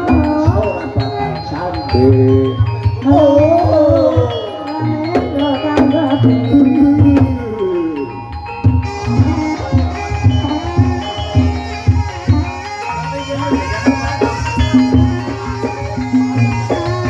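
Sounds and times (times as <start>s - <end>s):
ringing metallophone notes: 0.0s - 17.0s
wavering sliding melodic line: 0.0s - 17.0s.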